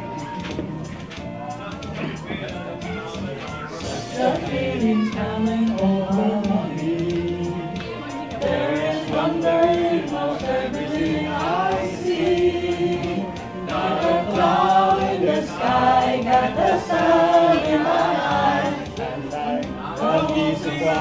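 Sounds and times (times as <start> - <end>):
music with steady beat: 0.0 - 21.0
voices singing together: 3.0 - 21.0.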